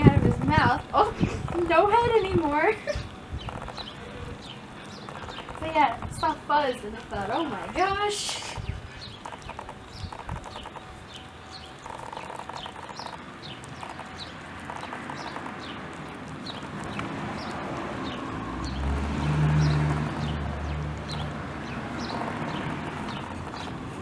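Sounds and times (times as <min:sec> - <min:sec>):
bird chirping: 0:01.4 - 0:24.0.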